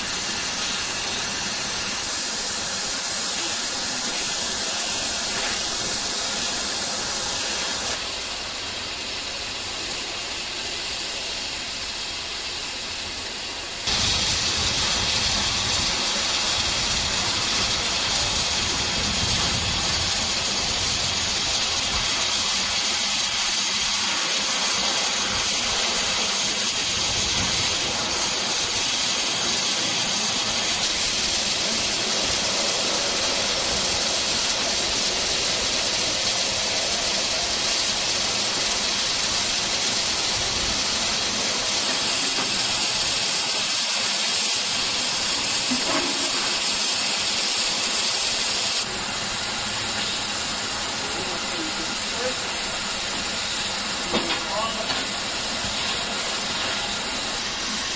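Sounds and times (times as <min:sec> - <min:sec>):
steam locomotive hissing steam: 0:00.0 - 0:57.9.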